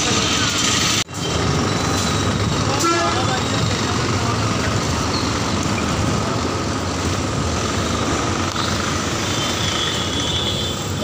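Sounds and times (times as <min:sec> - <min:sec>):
heavy engine running: 0:00.0 - 0:10.2
street noise: 0:00.0 - 0:11.0.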